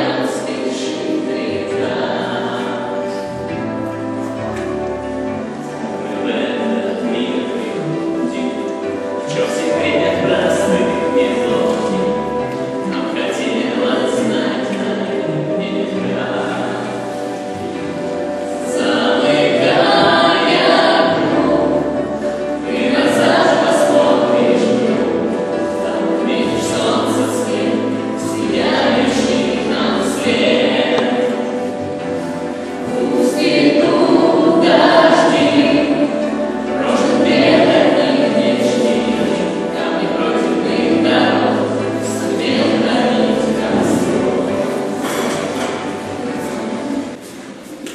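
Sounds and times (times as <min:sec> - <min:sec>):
choir singing with accompaniment: 0:00.0 - 0:47.9.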